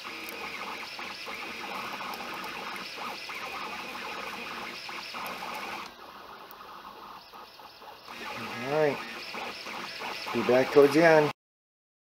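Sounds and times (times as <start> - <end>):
stepper motors whining: 0.0 - 11.3.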